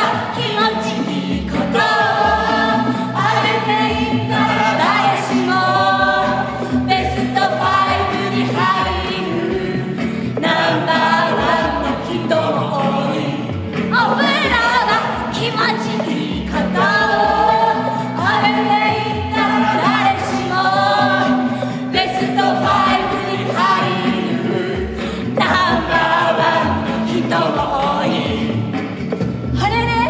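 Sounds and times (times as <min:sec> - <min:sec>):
group singing in chorus: 0:00.0 - 0:29.5
musical accompaniment: 0:00.0 - 0:30.0.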